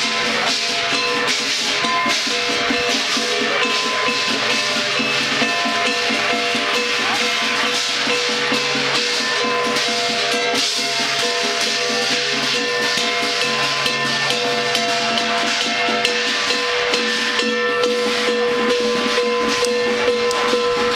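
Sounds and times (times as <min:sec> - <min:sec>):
rapid drum and cymbal strokes: 0:00.0 - 0:20.9.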